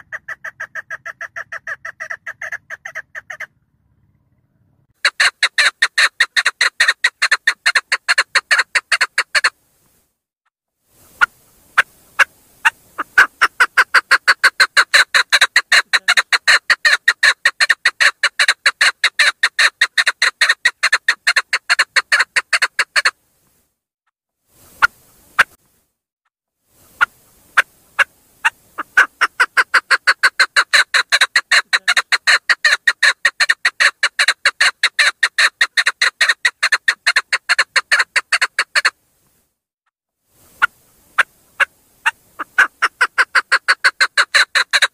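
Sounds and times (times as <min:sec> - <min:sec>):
partridge chuk calls: 0:00.0 - 0:03.5, 0:04.2 - 0:09.5, 0:11.1 - 0:23.1, 0:26.9 - 0:38.9, 0:40.5 - 0:44.9.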